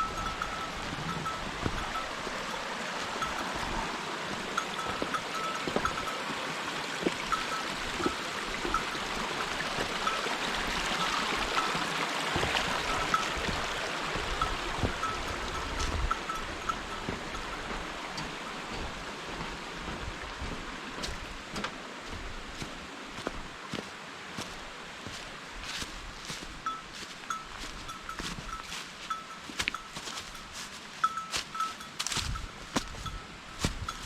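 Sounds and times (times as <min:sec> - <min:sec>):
mountain water rushing: 0:00.0 - 0:34.0.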